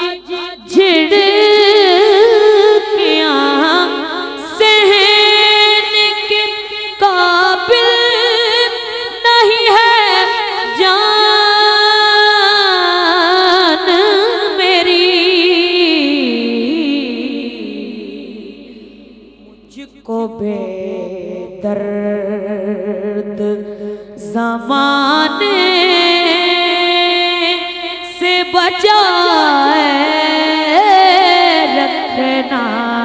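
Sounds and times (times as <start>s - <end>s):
boy singing into a microphone: 0.0s - 18.9s, 19.5s - 33.0s.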